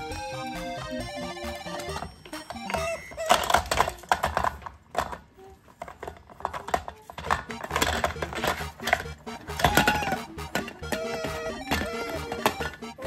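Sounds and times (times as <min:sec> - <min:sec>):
plastic toy clicking and rattling: 0:00.8 - 0:13.0.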